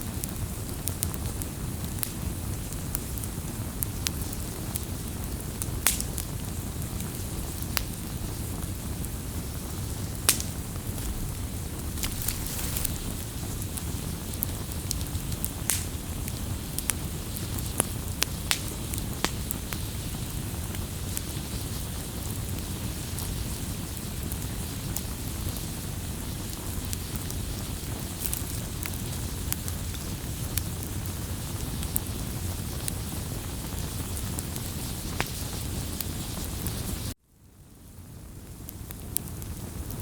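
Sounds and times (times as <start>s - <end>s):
campfire crackling and popping: 0.0s - 37.2s, 38.2s - 40.0s.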